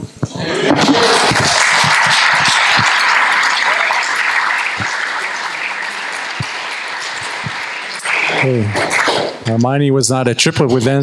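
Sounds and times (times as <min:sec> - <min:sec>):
audience applauding: 0:00.5 - 0:09.4.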